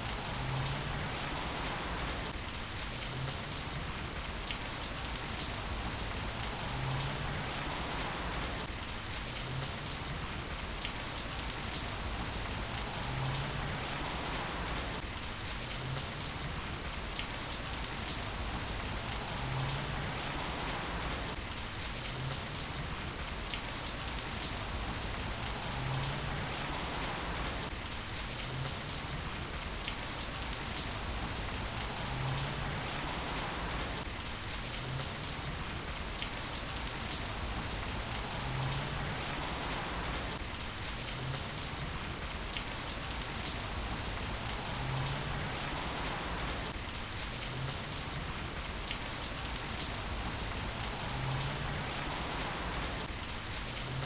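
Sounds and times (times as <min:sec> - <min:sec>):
heavy rain on hard surfaces: 0:00.0 - 0:54.0.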